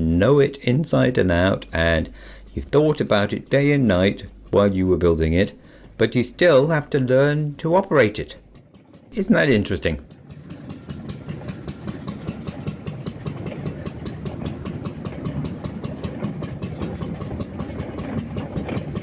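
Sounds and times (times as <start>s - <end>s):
single-cylinder locomotive engine running: 0.0s - 19.0s.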